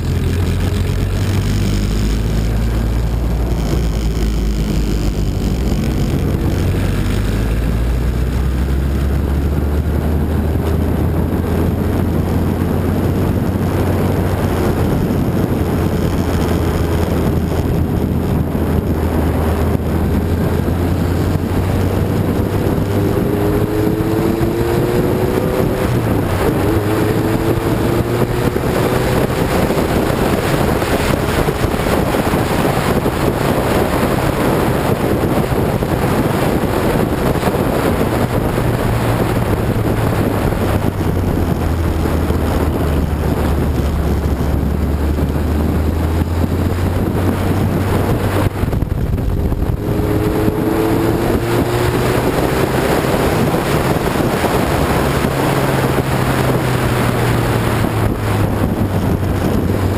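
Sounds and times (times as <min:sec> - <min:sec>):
race car engine revving: 0:00.0 - 0:59.9
wind buffeting microphone: 0:00.0 - 0:59.9.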